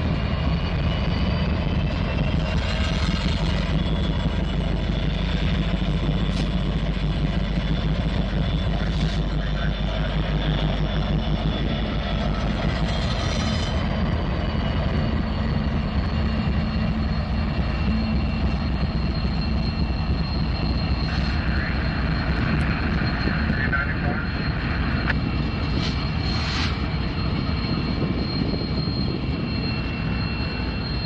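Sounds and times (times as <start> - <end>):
high steady whine: 0.0 - 31.0
locomotive engine drone: 0.0 - 31.0.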